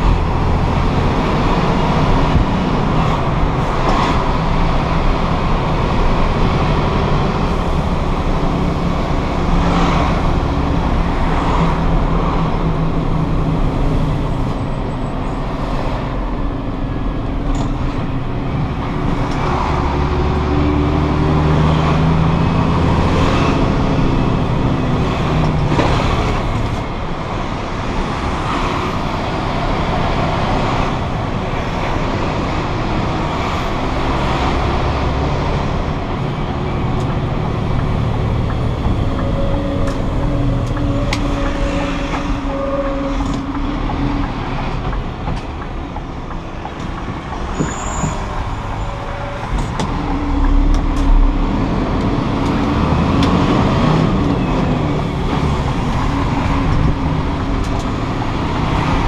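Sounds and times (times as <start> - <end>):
lorry diesel engine accelerating: 0.0 - 59.0
road noise: 0.0 - 59.0.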